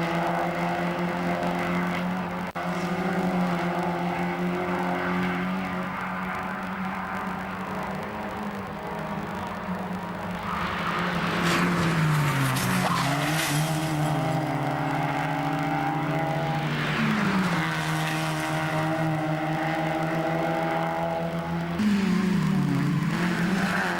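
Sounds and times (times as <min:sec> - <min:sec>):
race car engines revving: 0:00.0 - 0:23.9.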